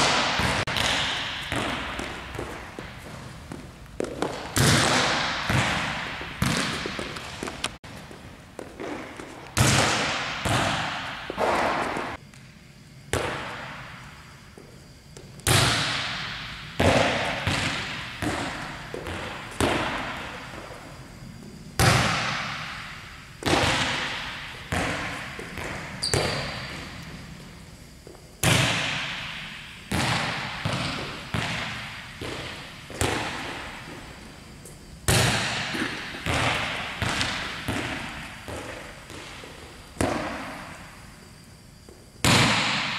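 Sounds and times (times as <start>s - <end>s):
volleyballs smacking and bouncing: 0.0s - 12.4s, 13.1s - 14.0s, 15.2s - 20.8s, 21.8s - 27.3s, 28.0s - 40.9s, 42.2s - 42.9s.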